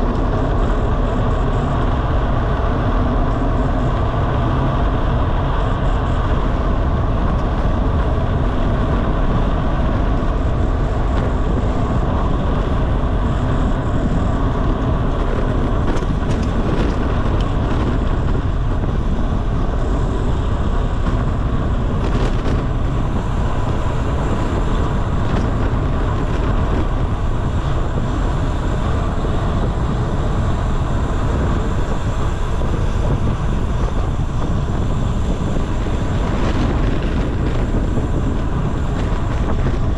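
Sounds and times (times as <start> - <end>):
bicycle tyre and road noise: 0.0 - 39.9
wind on microphone: 0.0 - 39.9.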